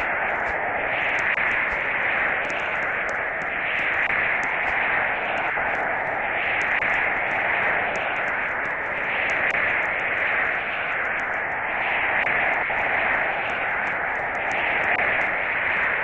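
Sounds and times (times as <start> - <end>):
steady static hiss: 0.0 - 16.0.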